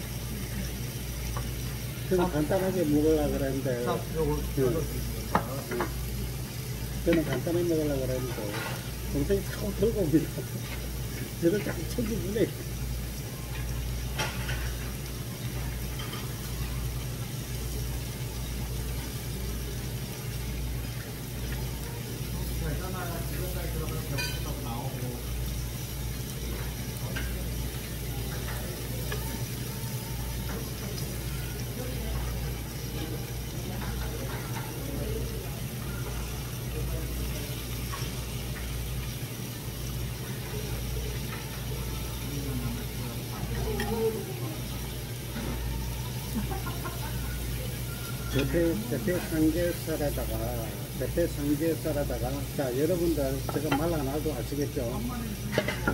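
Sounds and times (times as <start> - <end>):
food hissing on griddle: 0.0 - 55.9.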